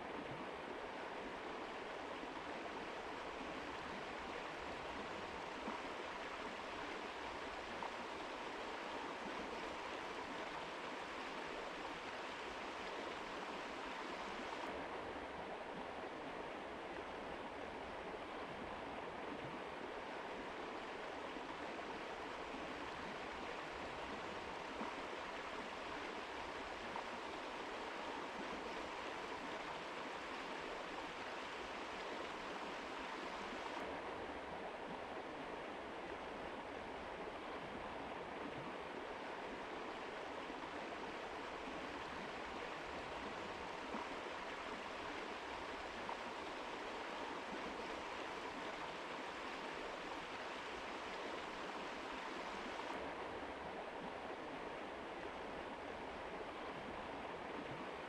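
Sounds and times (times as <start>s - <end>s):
mountain river flowing: 0.0s - 58.0s.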